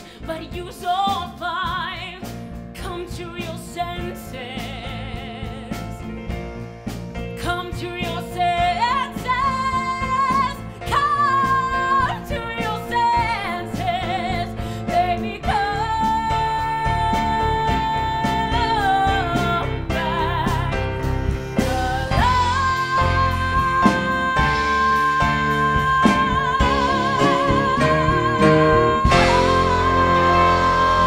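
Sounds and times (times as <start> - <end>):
woman singing: 0.0 - 6.3, 7.4 - 31.0
live rock band playing: 0.0 - 31.0.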